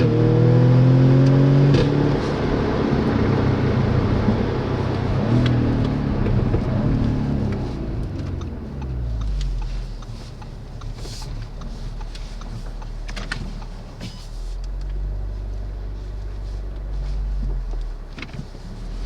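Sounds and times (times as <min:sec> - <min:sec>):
car engine drone: 0:00.0 - 0:19.0.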